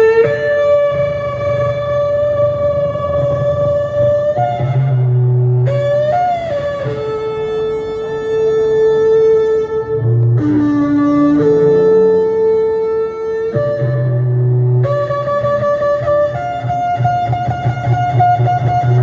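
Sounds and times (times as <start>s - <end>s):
guitar-led instrumental music: 0.0s - 19.0s.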